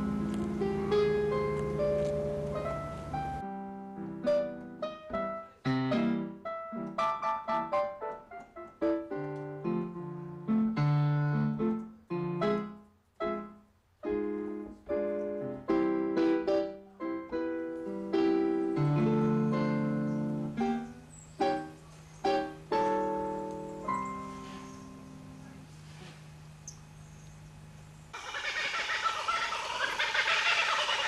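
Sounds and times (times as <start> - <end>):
piano notes and chords: 0.0 - 26.4.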